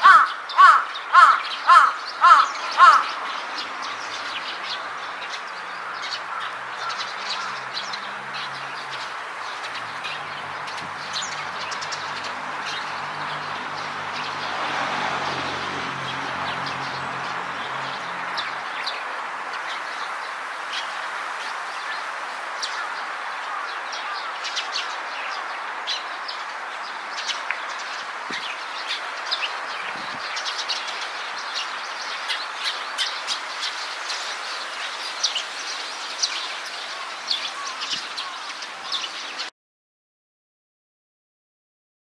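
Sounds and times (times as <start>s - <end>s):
small birds chirping: 0.0s - 39.5s.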